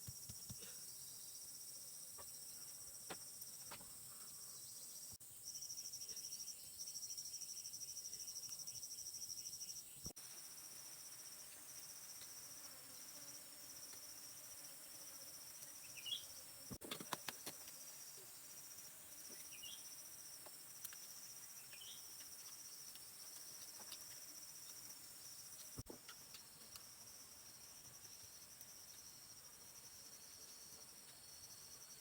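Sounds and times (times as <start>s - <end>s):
crickets trilling: 4.9s - 32.0s.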